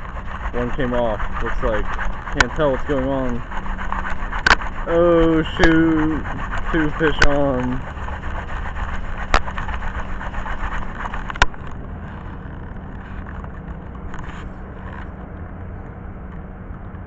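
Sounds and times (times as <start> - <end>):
low hum: 0.0 - 17.0
road traffic rumble: 0.0 - 17.0.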